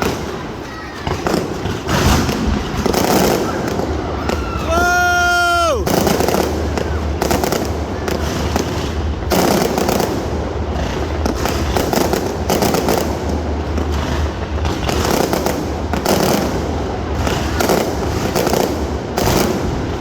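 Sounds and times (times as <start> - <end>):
fireworks booming and crackling: 0.0 - 20.0.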